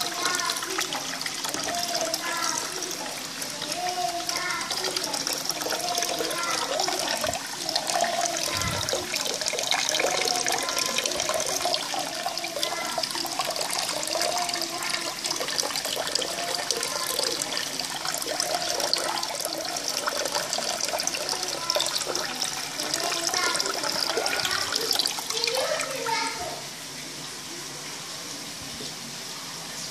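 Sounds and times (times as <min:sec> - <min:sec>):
water running into a tub: 0:00.0 - 0:29.9.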